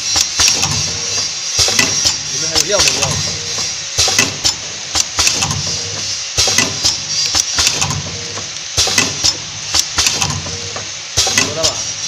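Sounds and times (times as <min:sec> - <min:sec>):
machine clacks and clicks: 0:00.0 - 0:12.0
packing machine humming: 0:00.0 - 0:12.0.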